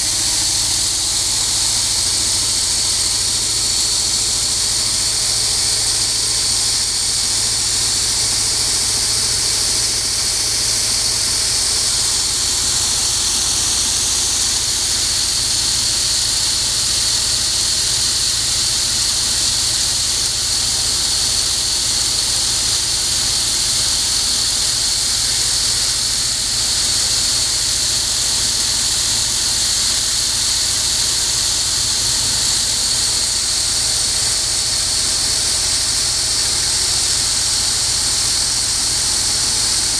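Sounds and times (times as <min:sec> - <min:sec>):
olive paste machine whining: 0:00.0 - 0:39.9.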